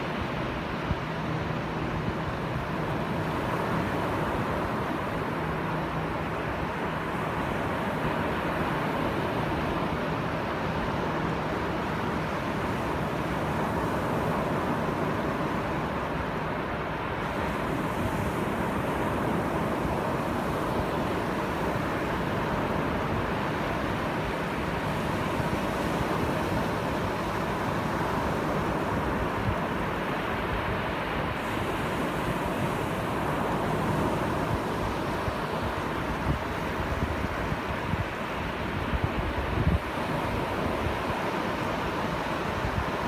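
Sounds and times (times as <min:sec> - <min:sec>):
ocean waves breaking on sand: 0:00.0 - 0:43.0.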